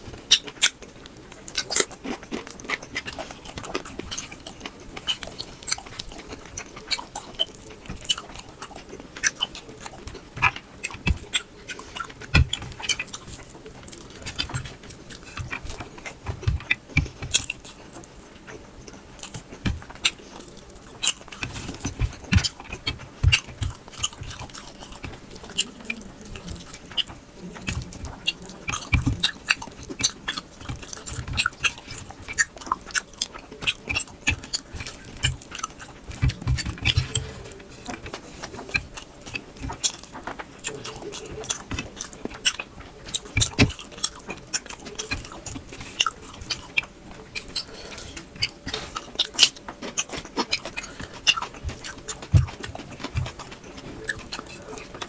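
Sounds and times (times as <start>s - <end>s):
wet chewing and lip smacks: 0.0s - 55.0s.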